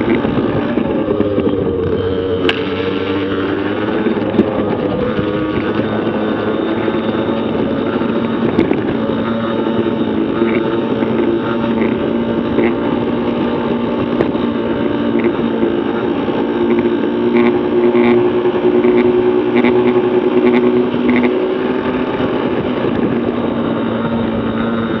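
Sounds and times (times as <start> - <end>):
minibike engines running hard: 0.0 - 25.0.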